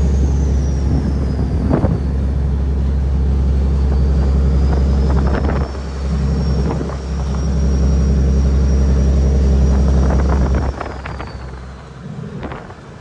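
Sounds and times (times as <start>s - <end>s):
turbo whine: 0.0s - 12.7s
diesel truck engine drone: 0.0s - 13.0s.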